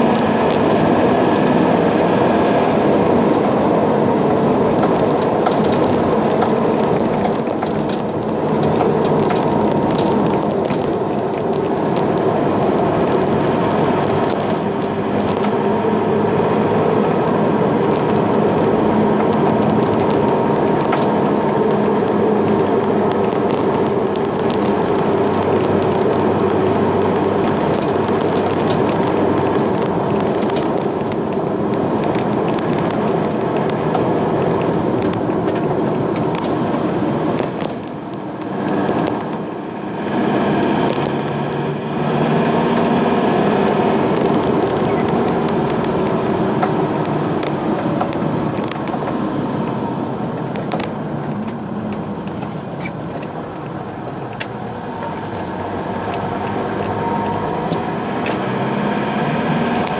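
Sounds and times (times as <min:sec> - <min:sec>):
vehicle running noise: 0:00.0 - 0:59.9.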